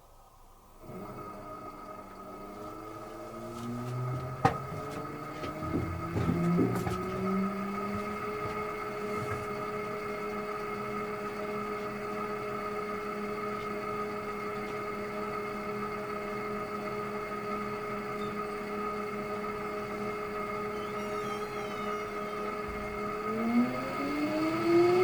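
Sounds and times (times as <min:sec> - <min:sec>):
washing machine whine and hum: 0:00.0 - 0:25.0.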